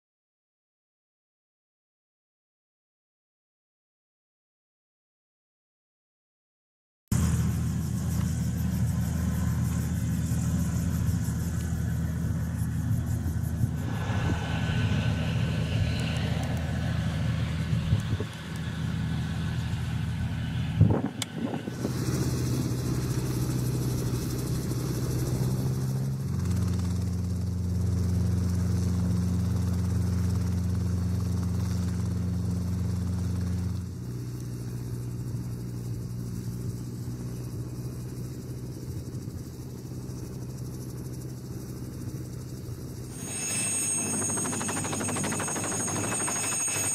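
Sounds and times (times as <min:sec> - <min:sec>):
helicopter engines and rotor: 0:07.1 - 0:46.9.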